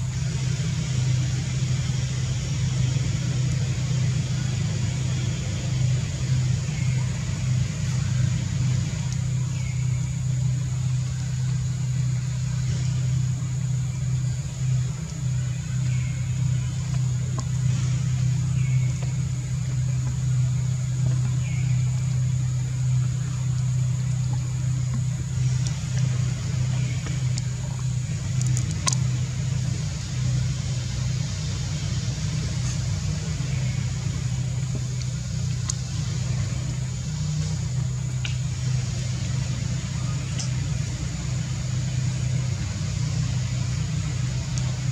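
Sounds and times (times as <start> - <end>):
low motor hum: 0.0 - 44.9.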